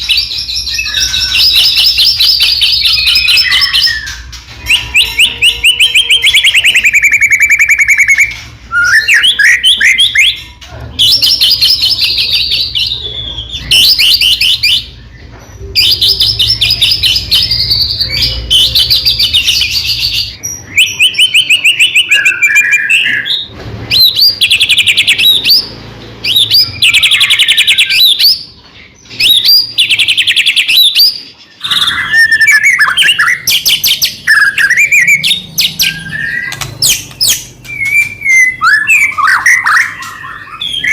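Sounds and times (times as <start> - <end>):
bird singing loudly: 0.0 - 15.1, 15.7 - 40.9.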